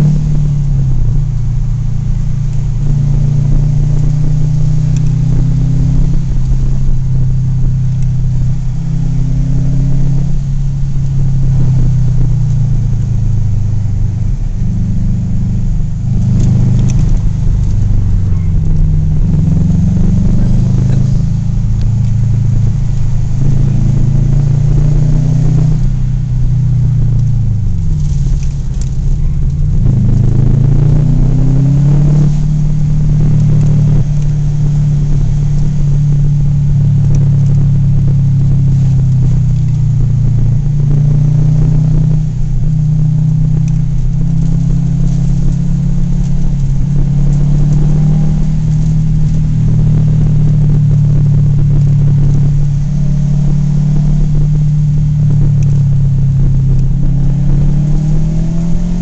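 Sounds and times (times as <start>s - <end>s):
car engine droning: 0.0s - 59.0s.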